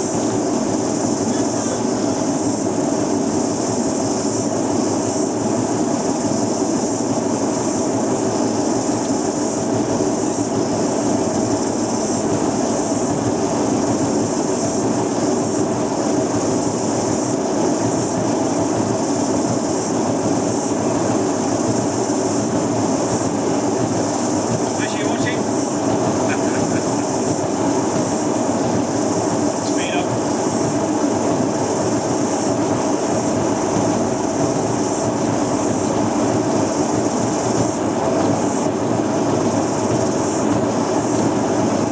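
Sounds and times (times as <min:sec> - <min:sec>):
rumble and hiss of bearings: 0:00.0 - 0:41.9
washing machine drum spinning: 0:00.0 - 0:41.9.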